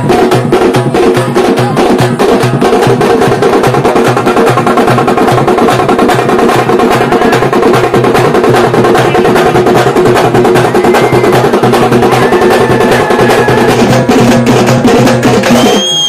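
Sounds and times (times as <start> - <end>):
frame drums beaten with sticks: 0.0 - 16.0.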